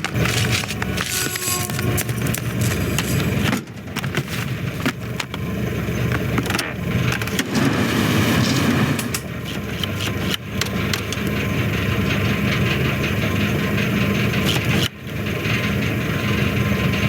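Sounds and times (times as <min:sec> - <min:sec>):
rattles clicks and knocks: 0:00.0 - 0:07.8, 0:08.4 - 0:17.0
vehicle engine running: 0:00.0 - 0:17.0.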